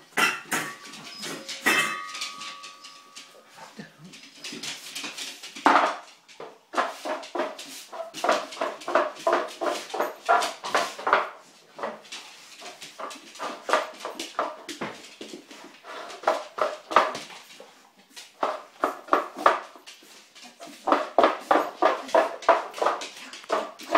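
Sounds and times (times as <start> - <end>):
dog claws tapping on wooden floor: 4.1 - 23.9.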